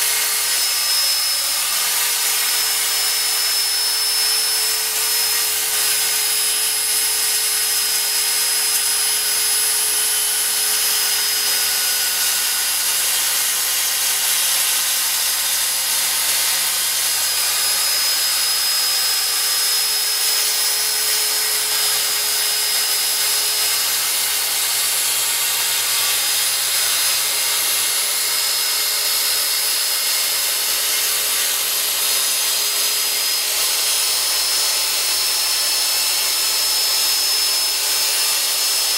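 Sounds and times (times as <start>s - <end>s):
circular saw cutting wood: 0.0s - 38.9s.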